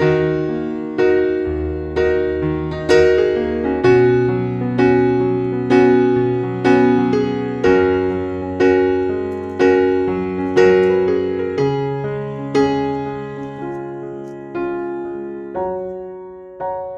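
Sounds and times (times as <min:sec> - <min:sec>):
gentle piano chords: 0:00.0 - 0:16.9.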